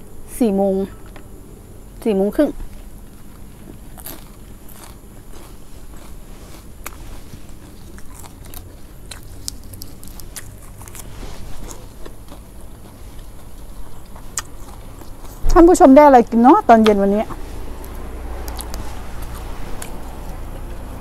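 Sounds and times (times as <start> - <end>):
chewing crispy food: 2.6 - 15.5, 16.8 - 21.0.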